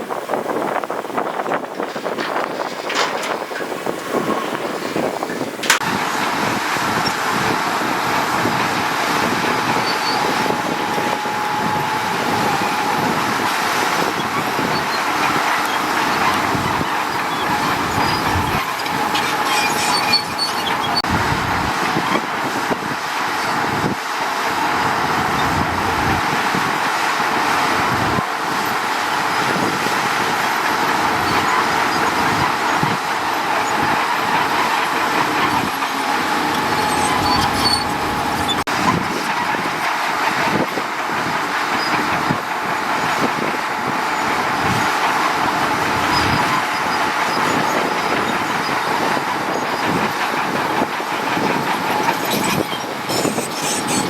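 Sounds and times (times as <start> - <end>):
diesel machinery rumble and clatter: 0.0 - 54.0.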